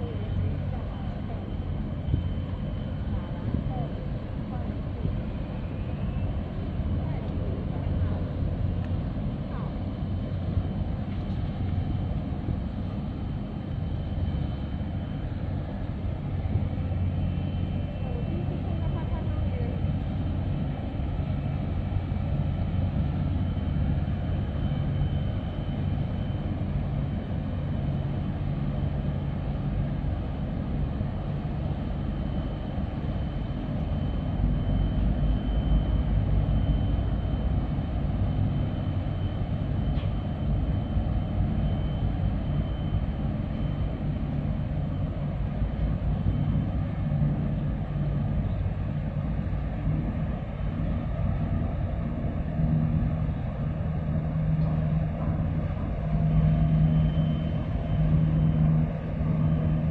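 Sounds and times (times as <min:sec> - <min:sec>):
faint high whine: 0:00.0 - 0:59.9
ship engines rumbling: 0:00.0 - 0:59.9.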